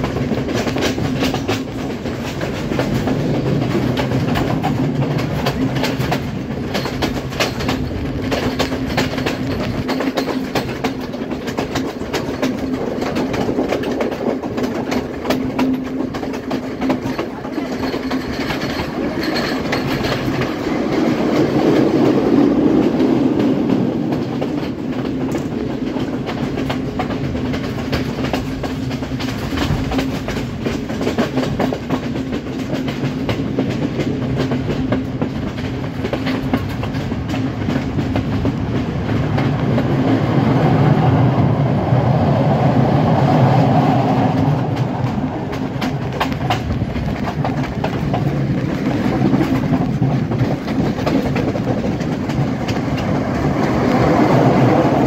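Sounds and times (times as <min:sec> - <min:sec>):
train rumble and low hum: 0:00.0 - 0:55.0
train wheels clattering over rails: 0:00.0 - 0:55.0.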